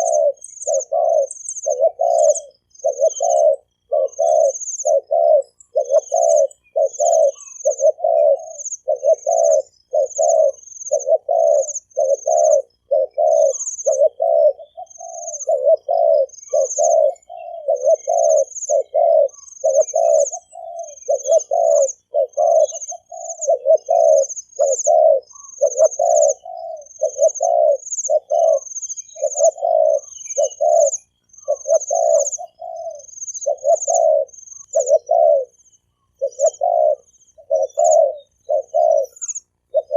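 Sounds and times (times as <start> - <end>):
bird chirping high: 0.0 - 39.9
dove cooing: 0.0 - 39.9.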